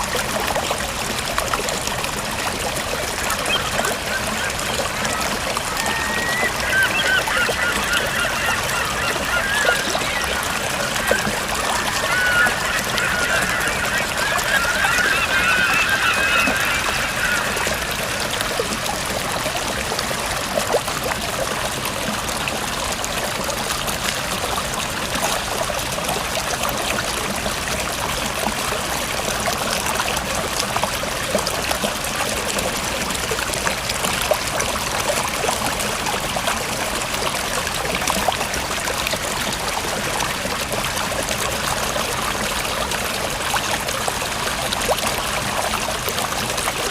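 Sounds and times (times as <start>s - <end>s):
stream water trickling: 0.0s - 46.9s.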